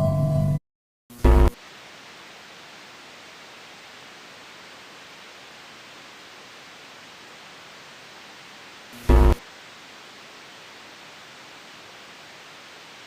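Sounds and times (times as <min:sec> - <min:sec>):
static hiss: 0:01.1 - 0:13.0.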